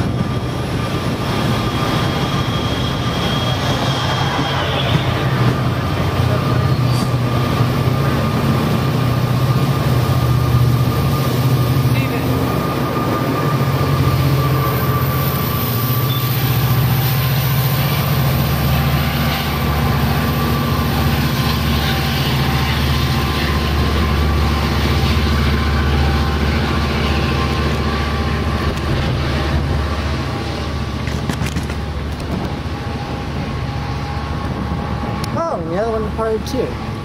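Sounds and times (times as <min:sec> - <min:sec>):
diesel locomotive drone: 0:00.0 - 0:37.0
train wheels rumbling on rails: 0:00.0 - 0:37.0.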